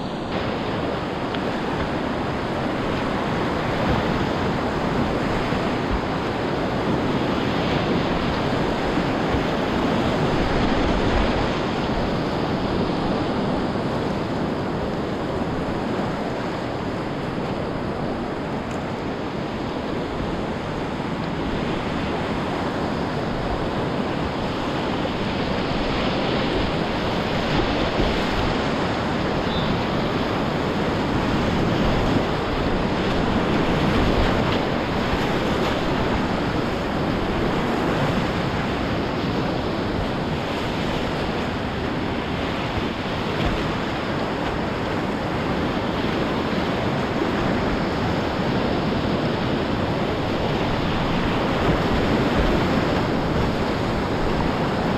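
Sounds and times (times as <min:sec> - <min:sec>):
river rapid rushing: 0:00.0 - 0:54.9.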